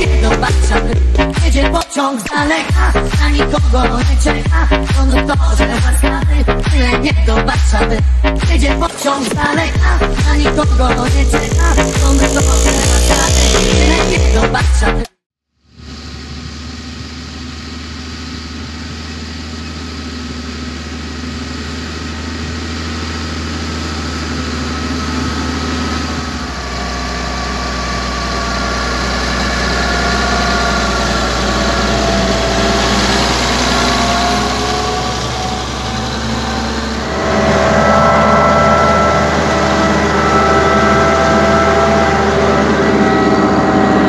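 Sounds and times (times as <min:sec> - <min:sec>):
tractor diesel engine under load: 0:00.0 - 0:02.0, 0:02.7 - 0:15.0, 0:15.8 - 0:44.0.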